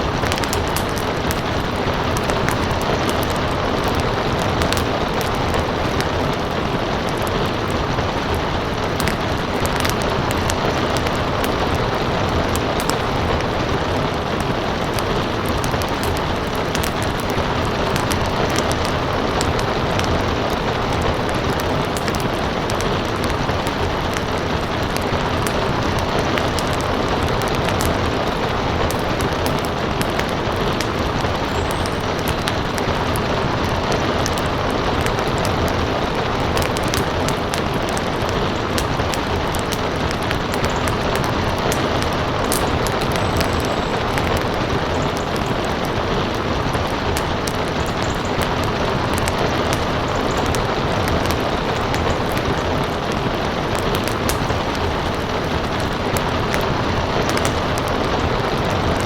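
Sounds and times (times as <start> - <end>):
steady rain: 0.0 - 59.0
wood fire crackling: 0.0 - 59.0.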